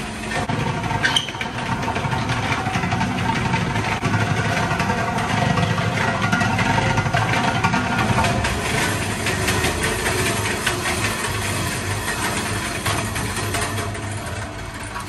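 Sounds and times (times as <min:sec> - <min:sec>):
mixer motor hum and whine: 0:00.0 - 0:15.0.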